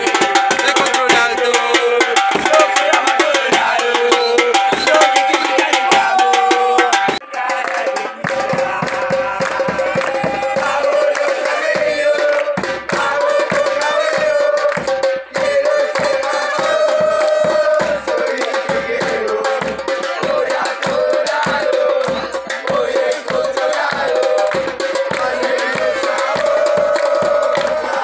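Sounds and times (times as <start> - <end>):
drum band playing fast beat: 0.0 - 28.0
held melody over drums: 0.0 - 28.0.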